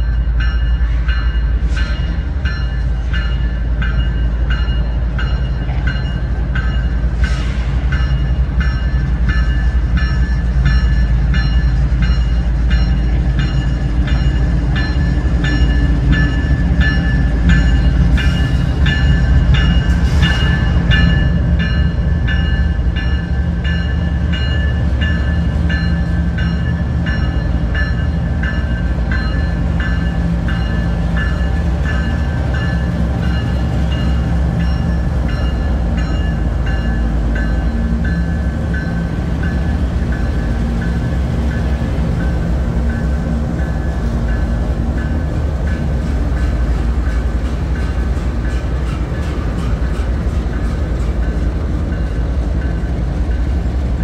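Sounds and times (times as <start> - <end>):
locomotive bell ringing: 0.0 - 53.7
diesel locomotive engine rumble: 0.0 - 54.0.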